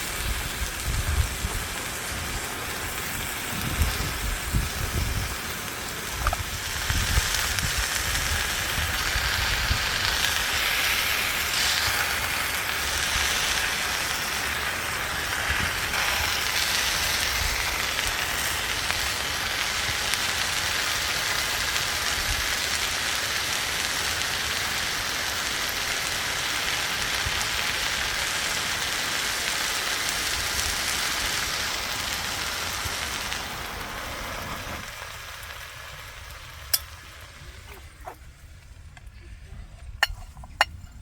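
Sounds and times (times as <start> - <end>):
food sizzling in a frying pan: 0.0 - 38.1.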